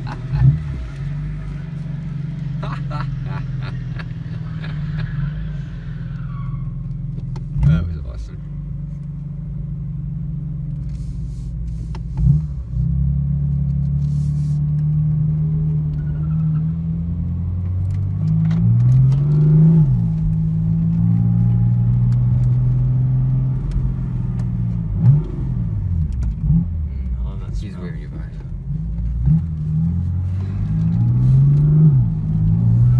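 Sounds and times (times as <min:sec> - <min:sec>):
car engine drone in cabin: 0:00.0 - 0:32.9.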